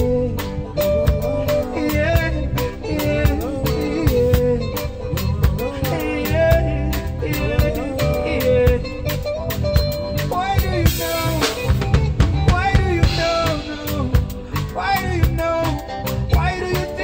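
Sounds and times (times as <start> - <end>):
drum kit beat: 0.0 - 17.0
electric guitar: 0.0 - 17.0
keyboard: 0.0 - 17.0
man singing: 0.0 - 17.0.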